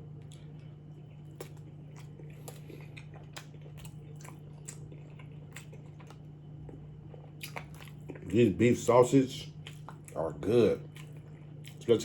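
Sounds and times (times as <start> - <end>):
mouth chewing food: 0.0 - 12.0
steady low hum: 0.0 - 12.0.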